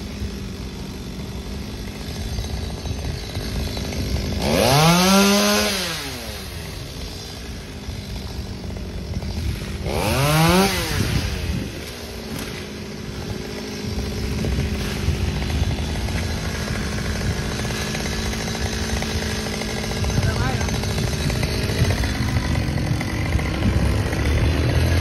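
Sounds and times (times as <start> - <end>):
chainsaw revving: 0.0 - 25.0.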